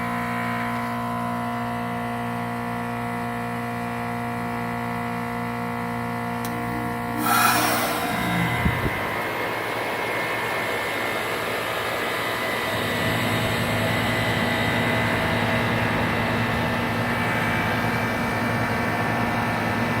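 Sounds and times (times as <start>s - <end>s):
compressor unit humming: 0.0s - 20.0s.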